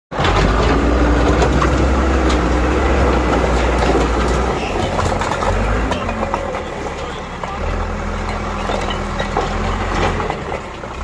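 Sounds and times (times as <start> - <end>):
bulldozer diesel engine running: 0.1 - 11.0.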